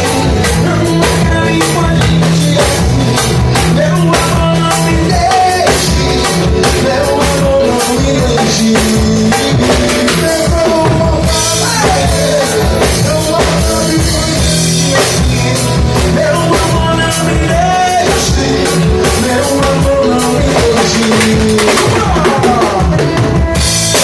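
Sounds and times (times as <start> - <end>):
bass: 0.0 - 24.0
drum kit beat: 0.0 - 24.0
melodic lead line: 0.0 - 24.0.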